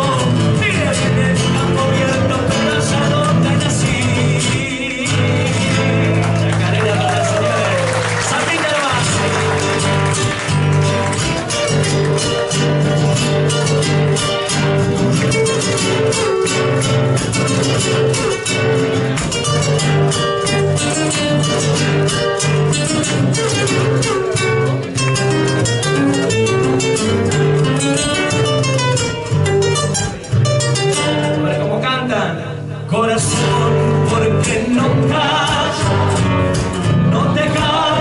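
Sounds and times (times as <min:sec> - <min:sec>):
bass notes: 0:00.0 - 0:38.0
strummed acoustic guitars: 0:00.0 - 0:38.0.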